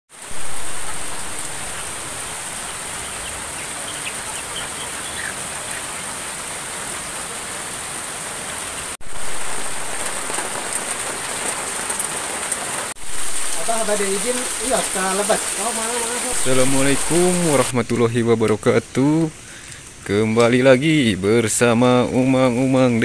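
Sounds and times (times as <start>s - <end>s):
rain falling on plants: 0.1s - 23.0s.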